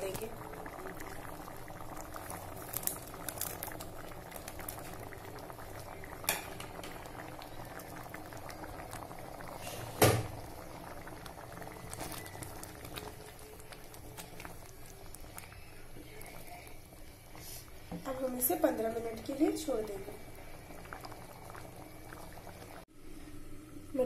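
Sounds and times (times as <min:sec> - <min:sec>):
thick gravy bubbling in pan: 0:00.0 - 0:23.9.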